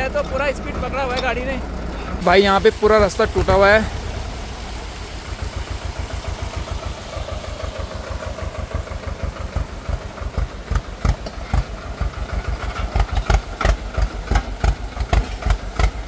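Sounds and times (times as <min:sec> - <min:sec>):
tractor diesel engine chugging: 0:00.0 - 0:16.0.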